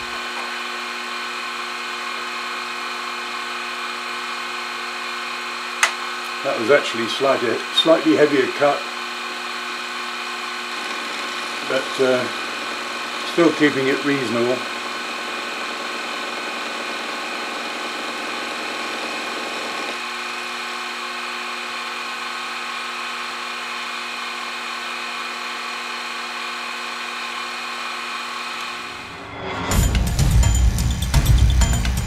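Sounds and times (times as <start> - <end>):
end mill cutting metal: 0.0 - 32.0
milling machine whine: 0.0 - 32.0.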